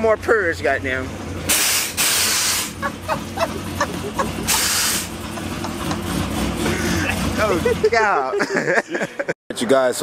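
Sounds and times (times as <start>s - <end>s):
engine idling: 0.0s - 8.4s.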